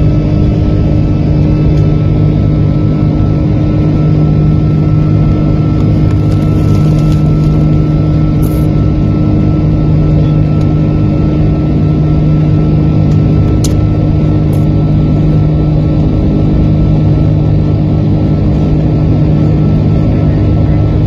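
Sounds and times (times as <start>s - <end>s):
engine drone and airflow rush: 0.0s - 21.0s
low hum: 0.0s - 21.0s
thin steady whine: 0.0s - 21.0s.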